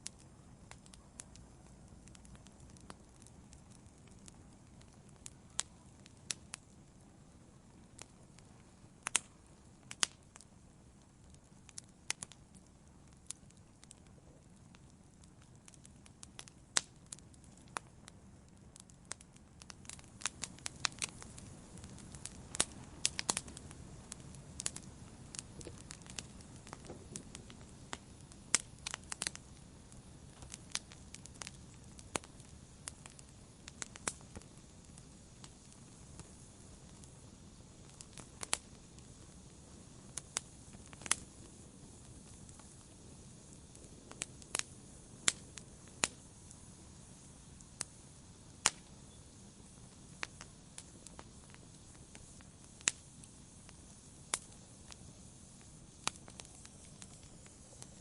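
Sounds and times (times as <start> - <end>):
hiss of burning fire: 0.0 - 58.0
wood fire crackling and popping: 0.0 - 58.0.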